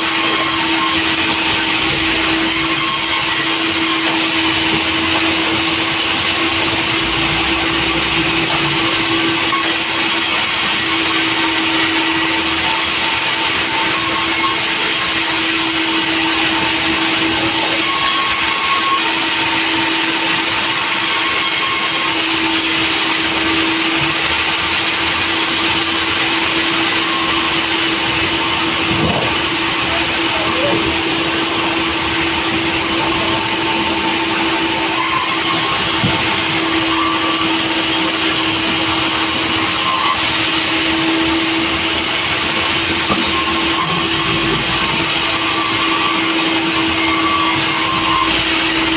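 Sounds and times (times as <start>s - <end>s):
sawmill machine drone: 0.0s - 48.9s.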